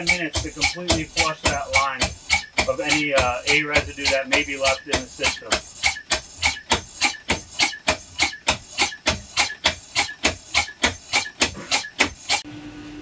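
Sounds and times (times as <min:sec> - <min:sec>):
pump cycling in sharp puffs: 0:00.0 - 0:12.5.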